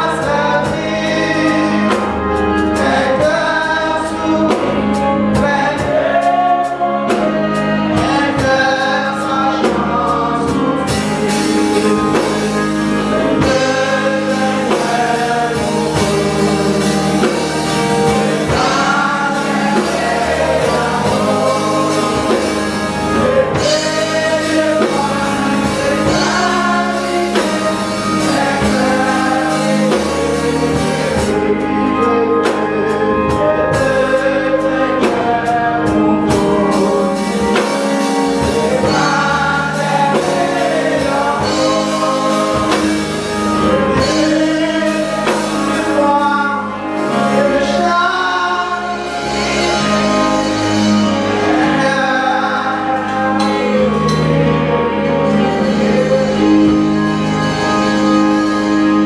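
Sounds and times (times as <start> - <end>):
congregation singing a hymn: 0.0 - 59.0
man leading hymn into microphone: 0.0 - 59.0
sustained keyboard chords: 0.0 - 59.0.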